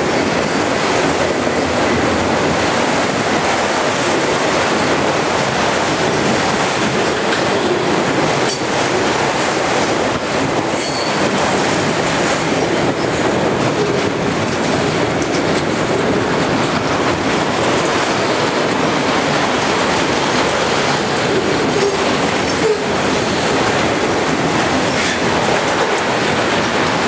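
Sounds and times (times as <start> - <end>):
steel wheels rumbling on rail: 0.0 - 27.0.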